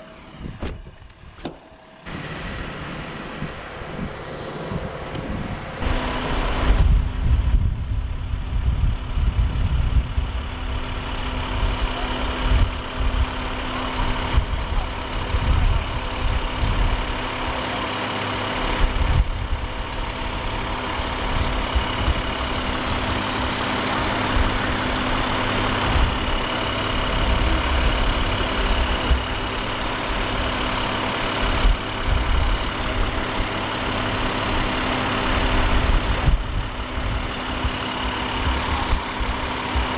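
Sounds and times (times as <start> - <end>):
fire engine idling: 0.0 - 39.9.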